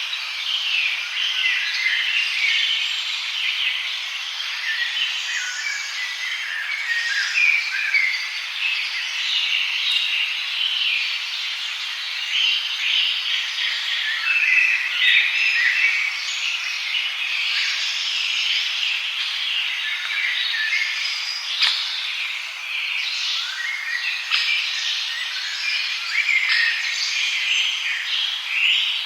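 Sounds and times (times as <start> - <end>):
songbirds chirping and singing: 0.0 - 29.0.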